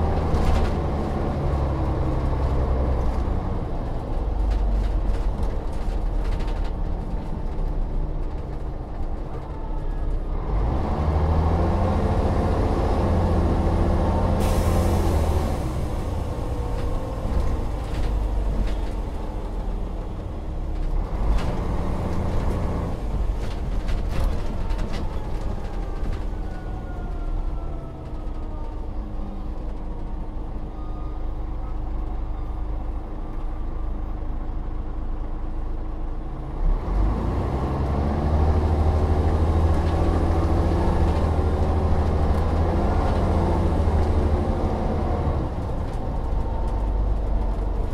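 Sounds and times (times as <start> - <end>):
bus diesel engine accelerating: 0.0 - 47.9.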